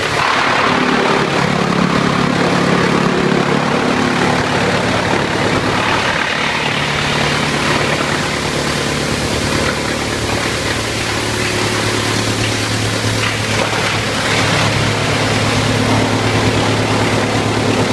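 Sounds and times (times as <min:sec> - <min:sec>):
wood chipper running: 0:00.0 - 0:17.9.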